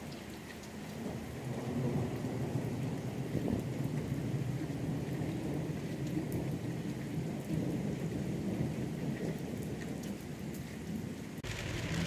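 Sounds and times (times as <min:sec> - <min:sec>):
heavy rain on pavement and cars: 0:00.0 - 0:12.0
low rumble of thunder: 0:00.9 - 0:12.0.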